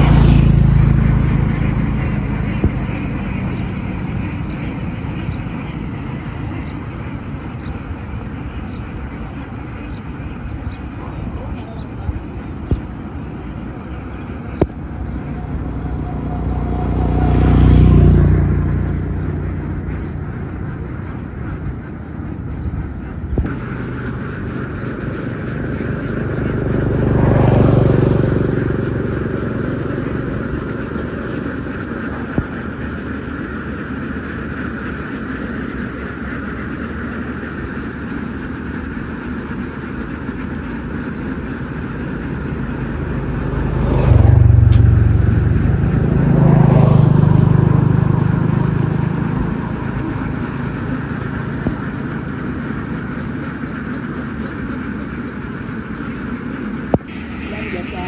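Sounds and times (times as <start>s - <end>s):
steady engine hum: 0.0s - 58.0s
vehicles passing by: 0.0s - 58.0s.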